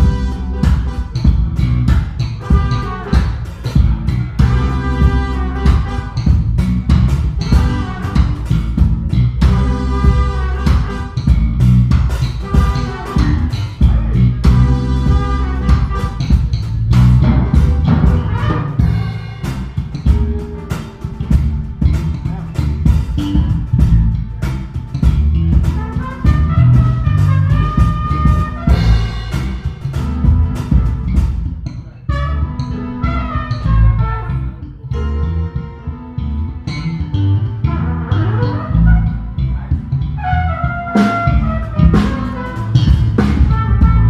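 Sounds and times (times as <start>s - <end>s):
drums striking steady beat: 0.0s - 32.2s, 40.5s - 44.0s
live band instrumental: 0.0s - 44.0s.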